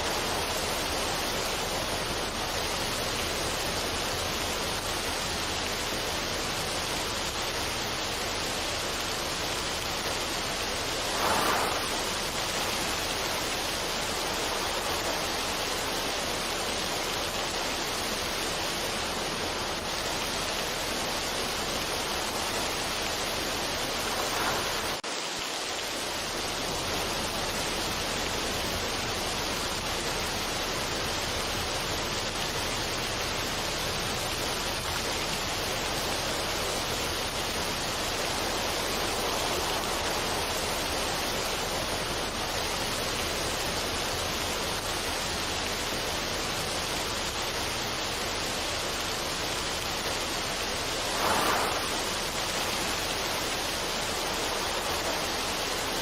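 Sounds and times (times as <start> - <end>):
steady rushing noise: 0.0 - 30.4, 33.0 - 45.0, 46.8 - 56.0.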